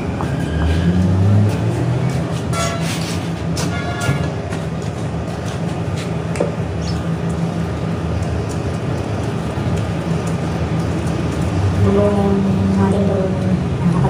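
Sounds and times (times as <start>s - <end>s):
low machinery hum and rumble: 0.0s - 14.0s.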